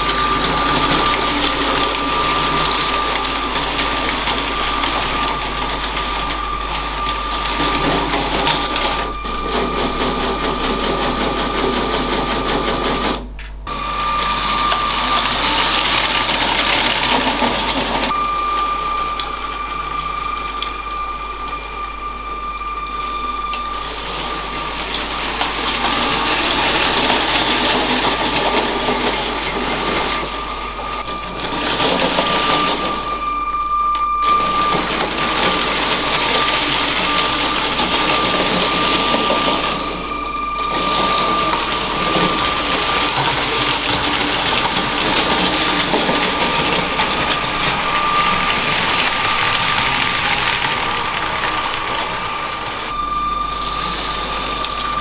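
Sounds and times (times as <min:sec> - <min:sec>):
plastic wheels clattering on track: 0:00.0 - 0:21.6, 0:23.2 - 0:33.5, 0:34.2 - 0:53.0
toy train motor whining: 0:00.0 - 0:55.0.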